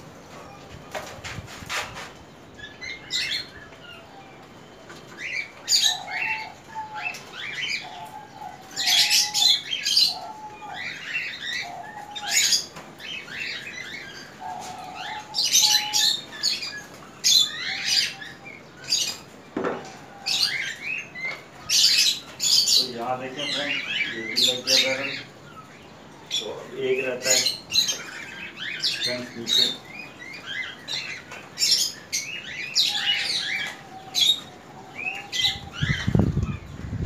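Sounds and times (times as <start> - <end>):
parrots chirping: 5.0 - 19.3, 20.0 - 36.6.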